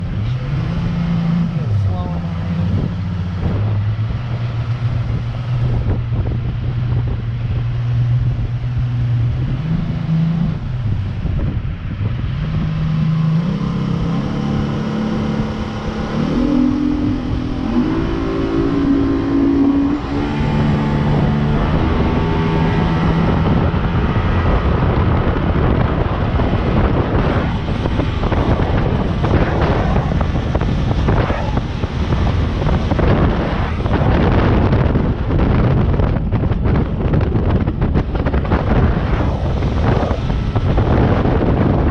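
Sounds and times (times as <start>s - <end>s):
jet boat engine running: 0.0s - 41.9s
rough gusty rushing noise: 0.0s - 41.9s.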